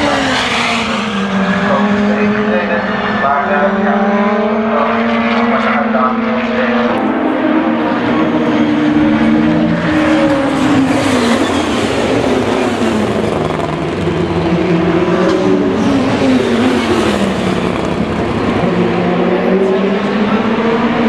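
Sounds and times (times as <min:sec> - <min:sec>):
racing car engines: 0:00.0 - 0:21.0.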